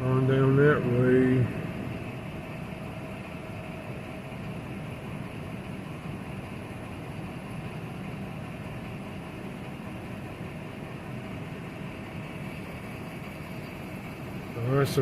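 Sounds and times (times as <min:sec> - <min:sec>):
idling engine hum: 0:00.0 - 0:15.0.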